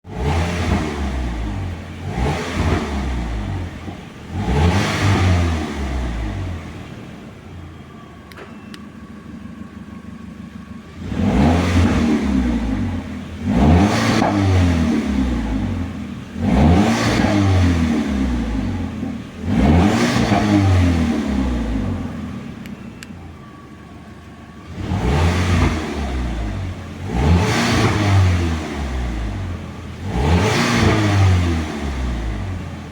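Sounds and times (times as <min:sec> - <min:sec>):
car engine revving: 0:00.0 - 0:07.4, 0:09.2 - 0:23.1, 0:24.6 - 0:32.9
car engine idling: 0:00.0 - 0:32.9.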